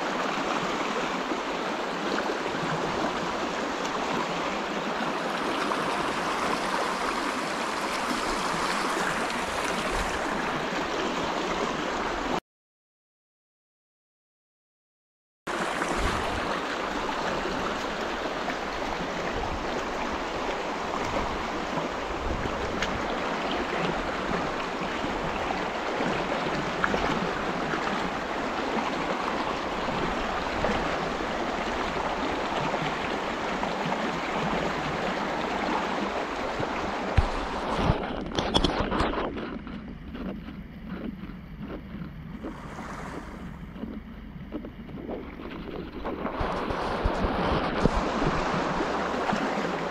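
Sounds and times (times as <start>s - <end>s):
river water rushing over stones: 0.0s - 12.4s, 15.5s - 39.2s, 42.4s - 43.9s, 44.6s - 49.9s.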